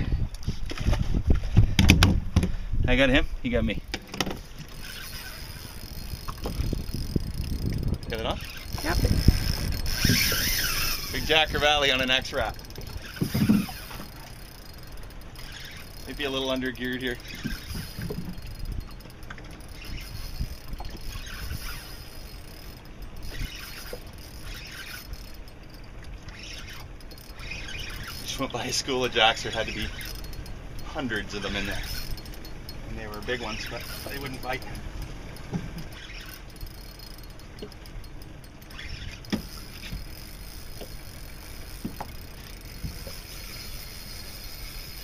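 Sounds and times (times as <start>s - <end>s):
wind rumbling on microphone: 0.0s - 45.0s
water washing along boat hull: 4.0s - 45.0s.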